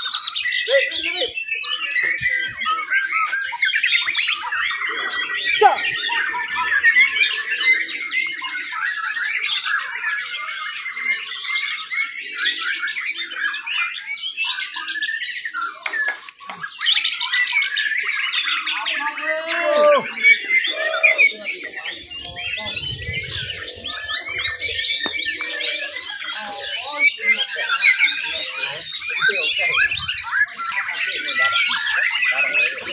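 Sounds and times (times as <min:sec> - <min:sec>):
songbirds singing whistles and trills: 0:00.0 - 0:32.9.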